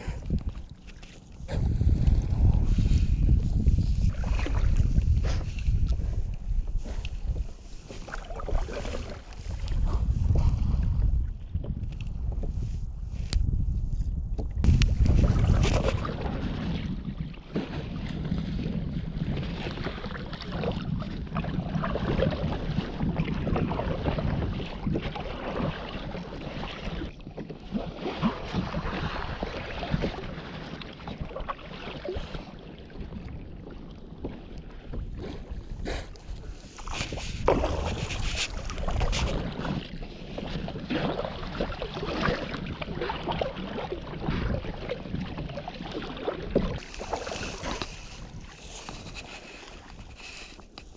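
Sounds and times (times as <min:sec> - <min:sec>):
wind buffeting microphone: 0:00.0 - 0:27.2, 0:31.0 - 0:50.9
water lapping against kayak hull: 0:00.0 - 0:50.9.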